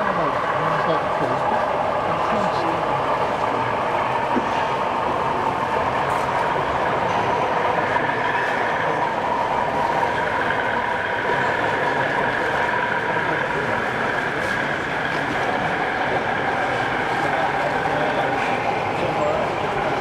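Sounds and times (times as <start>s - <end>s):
model train humming: 0.0s - 20.0s.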